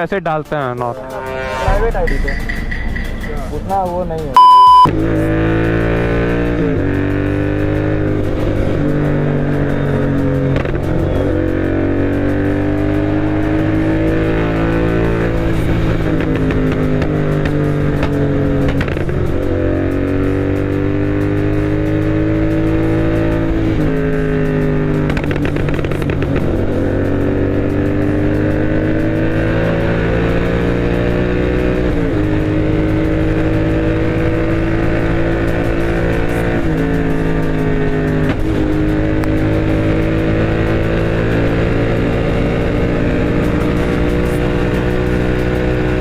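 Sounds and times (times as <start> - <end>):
motorcycle accelerating through gears: 4.4 - 46.0.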